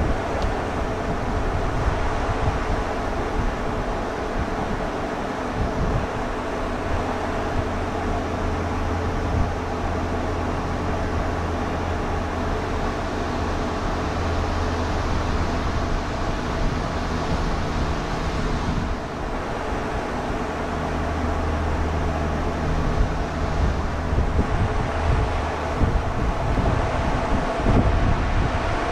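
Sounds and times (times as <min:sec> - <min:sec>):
even rushing noise: 0:00.0 - 0:28.9
mechanical hum: 0:00.0 - 0:28.9.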